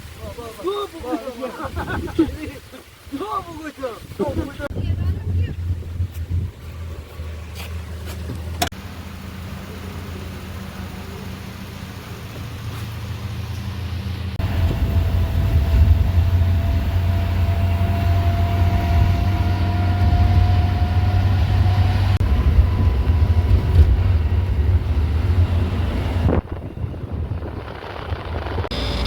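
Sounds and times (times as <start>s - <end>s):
engine low rumble: 4.7s - 29.0s.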